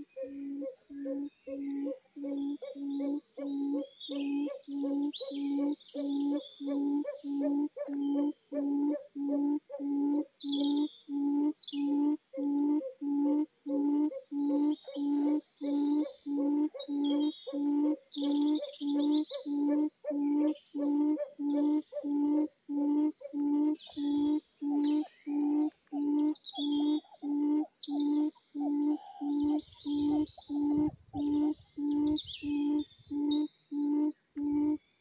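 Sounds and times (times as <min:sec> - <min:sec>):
small birds chirping: 0:00.0 - 0:09.1, 0:09.7 - 0:35.0
quail cooing: 0:00.0 - 0:34.9.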